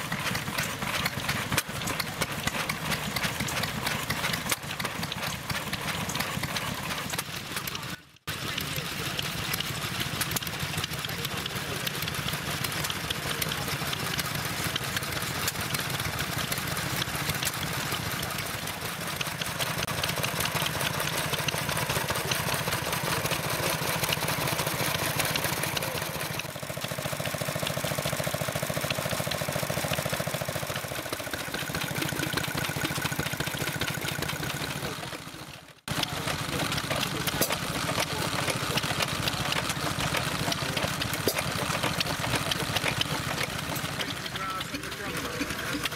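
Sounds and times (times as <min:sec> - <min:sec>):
stationary engines running: 0:00.0 - 0:45.9.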